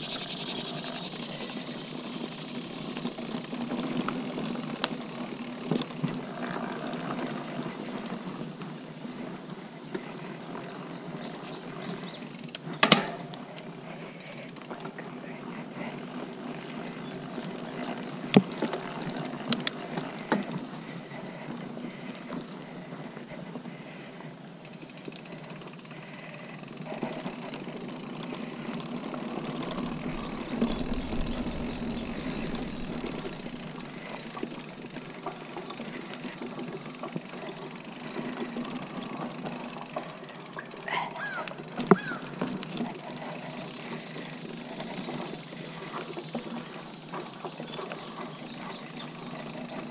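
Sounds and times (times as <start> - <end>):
bike tyre and drivetrain rattle: 0.0 - 49.9.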